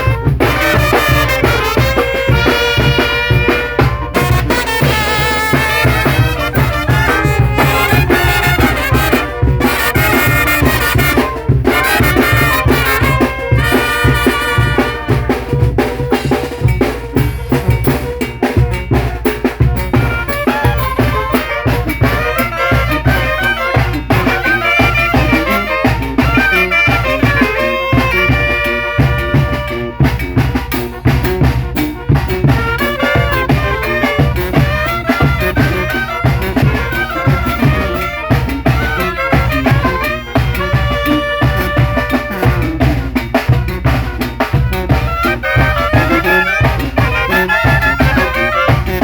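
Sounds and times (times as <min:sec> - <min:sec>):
drums: 0:00.0 - 0:49.0
trumpets and brass melody: 0:00.0 - 0:49.0.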